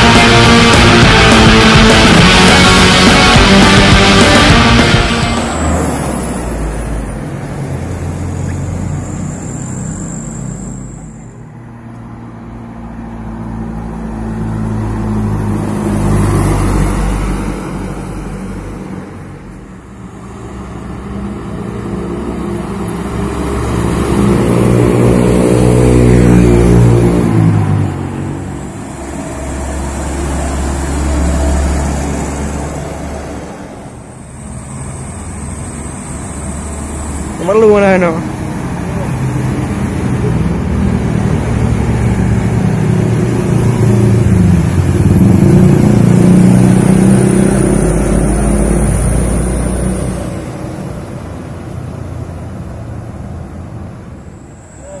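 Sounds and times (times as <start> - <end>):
trucks driving past: 0.0 - 55.0.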